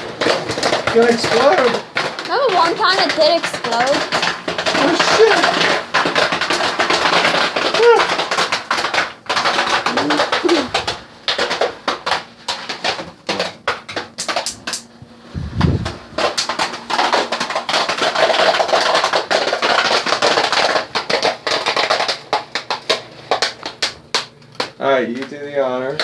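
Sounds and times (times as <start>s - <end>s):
popcorn kernels popping: 0.0s - 26.0s.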